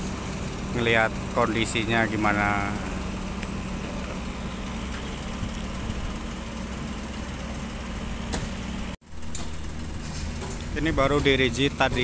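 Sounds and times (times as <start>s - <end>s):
diesel engines idling: 0.0s - 12.0s.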